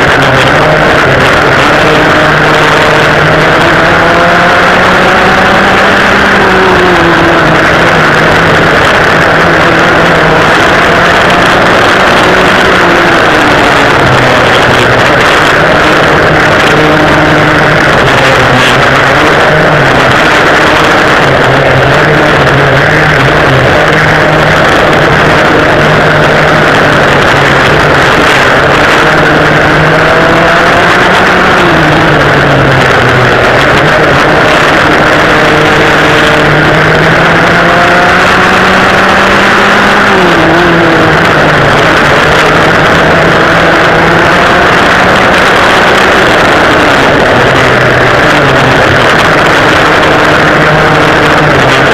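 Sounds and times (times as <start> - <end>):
two-stroke kart engines racing: 0.0 - 51.9.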